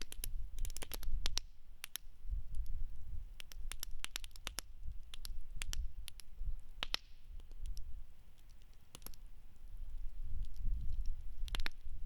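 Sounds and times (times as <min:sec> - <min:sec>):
campfire popping and snapping: 0:00.0 - 0:12.0.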